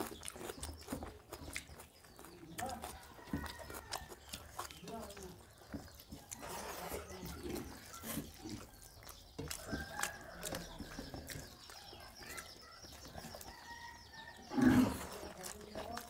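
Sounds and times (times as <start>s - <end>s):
chewing and lip smacks: 0.0s - 16.0s.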